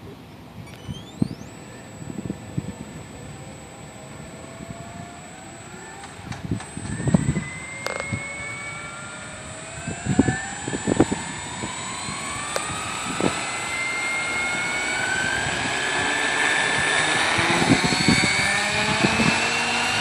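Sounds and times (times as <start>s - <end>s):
model helicopter rotor whine: 0.6s - 20.0s.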